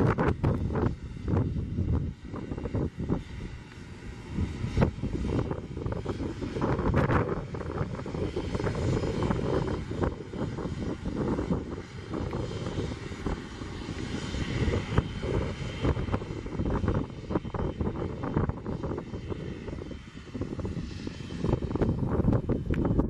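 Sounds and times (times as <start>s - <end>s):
jet engine rumble: 0.0s - 23.0s.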